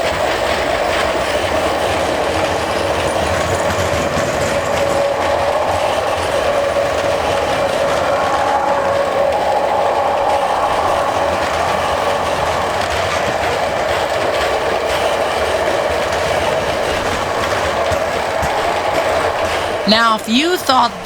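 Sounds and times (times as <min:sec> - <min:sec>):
train wheels clickety-clack: 0:00.0 - 0:19.8.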